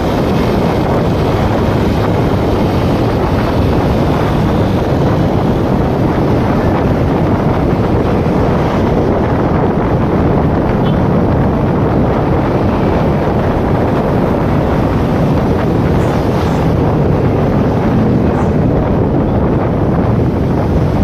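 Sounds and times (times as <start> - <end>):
low motorcycle rumble: 0.0 - 21.0
wind noise on microphone: 0.0 - 21.0.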